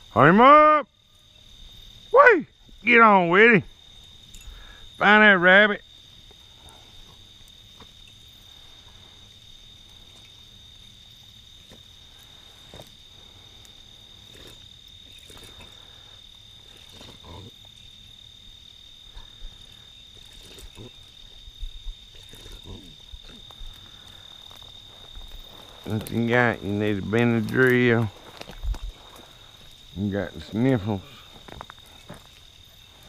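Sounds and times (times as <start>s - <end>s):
night insects calling: 0.0s - 33.0s.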